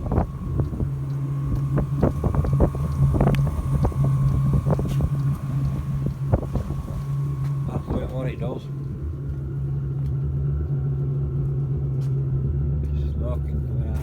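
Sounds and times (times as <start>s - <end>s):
wind buffeting microphone: 0.0s - 12.7s
heater fan motor hum: 0.0s - 14.0s
high-pitched whine: 0.0s - 14.0s.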